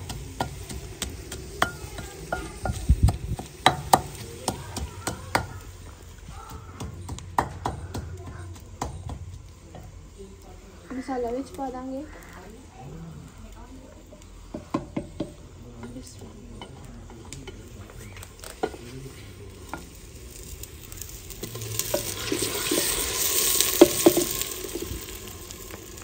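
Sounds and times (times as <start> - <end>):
onions sizzling in pot: 0.0 - 26.0.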